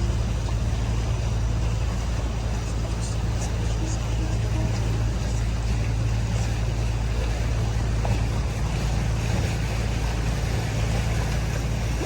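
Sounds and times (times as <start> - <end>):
boat engine droning: 0.0 - 12.0
rush of wind and water: 0.0 - 12.0.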